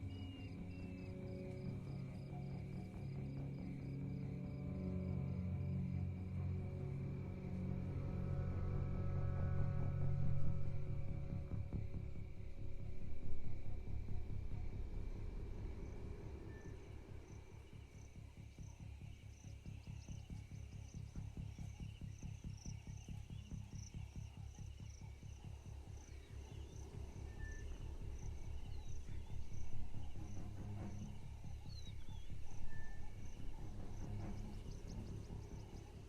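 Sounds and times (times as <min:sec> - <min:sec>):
crickets chirping: 0:00.0 - 0:36.0
low pulsing music: 0:00.0 - 0:36.0.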